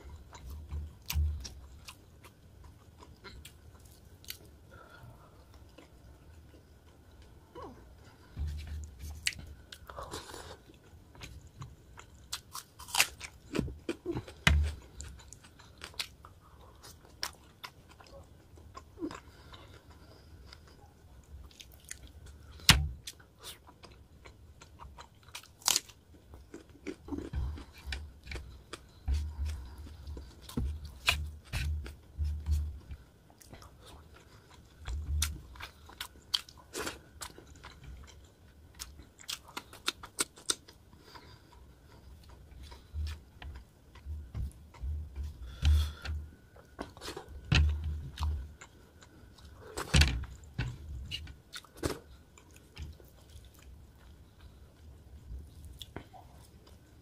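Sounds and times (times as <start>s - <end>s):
chewing and wet mouth sounds: 0.0s - 57.0s.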